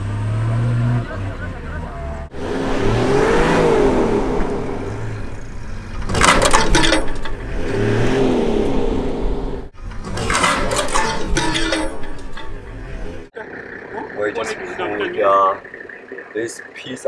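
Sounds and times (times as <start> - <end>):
four-wheel drive engine revving: 0.0 - 17.0.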